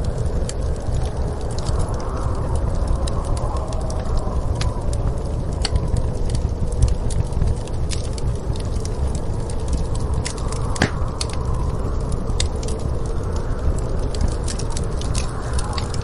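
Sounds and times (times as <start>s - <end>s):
low rumble of storm wind: 0.0s - 16.0s
wood fire crackling and popping: 0.0s - 16.0s.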